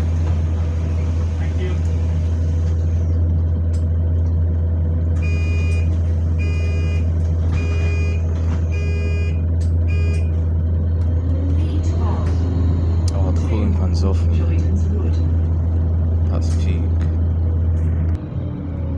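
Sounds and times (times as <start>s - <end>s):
bus engine droning: 0.0s - 18.9s.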